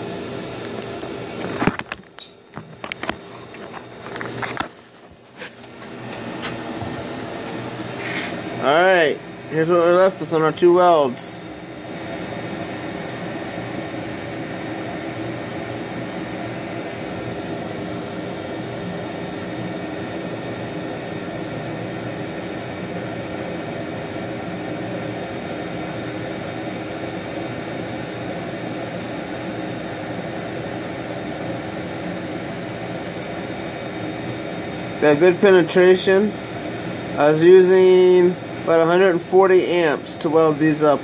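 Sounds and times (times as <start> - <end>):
fan-driven machine whirring hum: 0.0 - 41.0.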